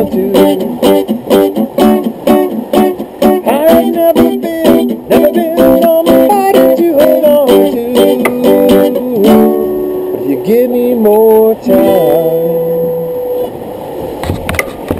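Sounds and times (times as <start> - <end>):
instrumental guitar music: 0.0 - 13.7.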